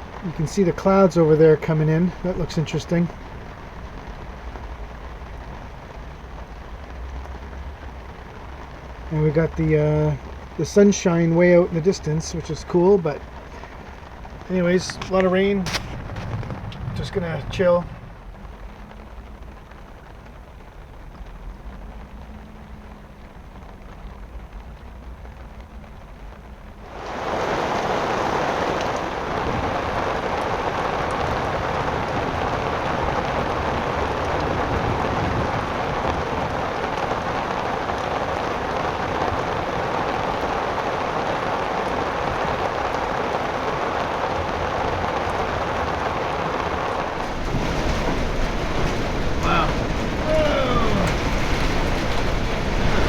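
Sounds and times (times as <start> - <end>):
heavy rain downpour: 0.0 - 53.0.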